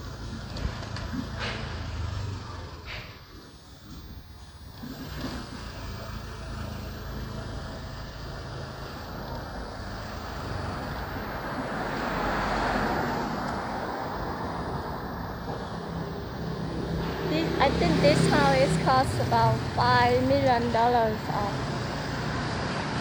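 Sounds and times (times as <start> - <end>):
motorbike engine running: 0.0 - 23.0
road and wind noise: 0.0 - 23.0
traffic noise: 0.0 - 23.0.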